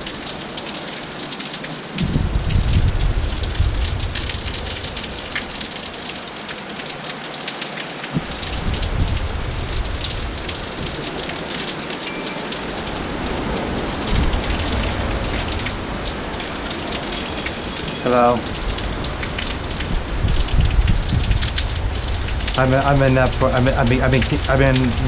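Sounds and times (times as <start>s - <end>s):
heavy rain falling: 0.0s - 25.0s
wind rumbling on microphone: 2.0s - 5.7s, 8.2s - 25.0s.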